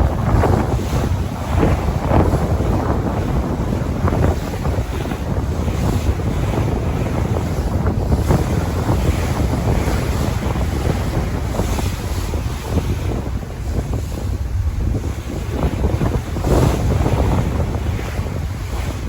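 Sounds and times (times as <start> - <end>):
ocean waves and surf: 0.0 - 19.0
wind buffeting microphone: 0.0 - 19.0.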